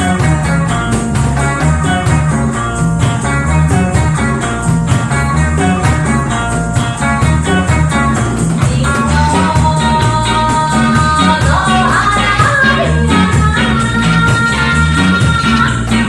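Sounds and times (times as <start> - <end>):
bass line: 0.0 - 16.0
drums keeping steady beat: 0.0 - 16.0
plucked guitar: 0.0 - 16.0.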